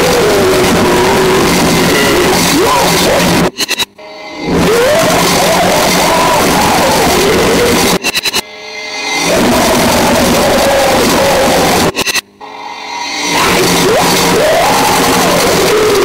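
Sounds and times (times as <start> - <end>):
distorted noise wall: 0.0 - 16.0
wavering gliding pitched line: 0.1 - 16.0.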